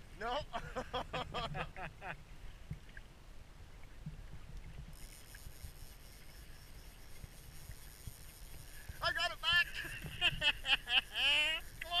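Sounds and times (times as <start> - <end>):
faint high hiss: 0.0 - 12.0
wind and water rumble around boat: 0.0 - 12.0.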